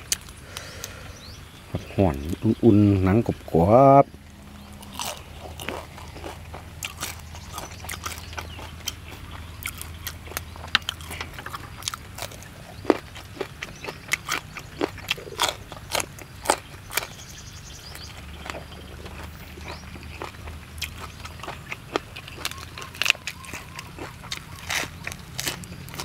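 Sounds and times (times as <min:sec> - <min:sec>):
close-up crunchy chewing: 0:00.0 - 0:01.3, 0:04.2 - 0:26.0.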